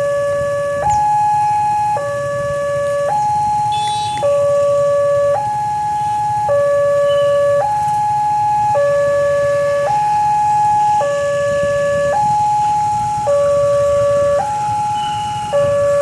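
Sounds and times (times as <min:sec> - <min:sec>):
level crossing two-tone alarm: 0:02.9 - 0:16.0.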